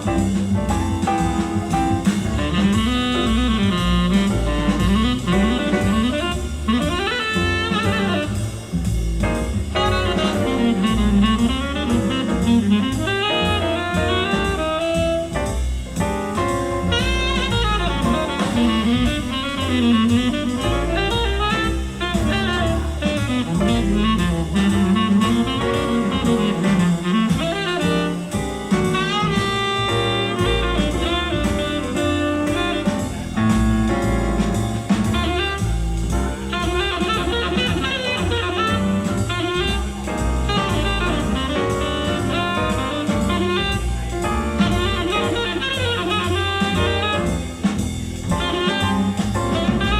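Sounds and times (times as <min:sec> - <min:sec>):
jazz through loudspeakers: 0:00.0 - 0:49.9.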